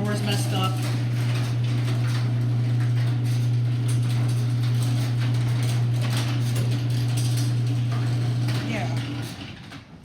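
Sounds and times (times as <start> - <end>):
garage door opener humming: 0.0 - 10.0.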